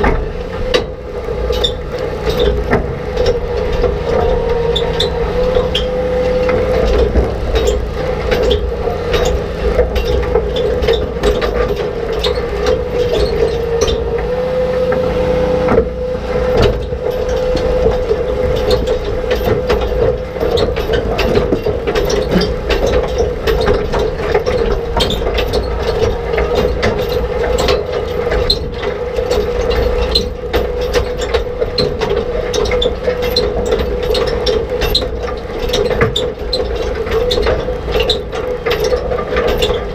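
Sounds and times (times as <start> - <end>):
machine hum and grind: 0.0 - 39.9.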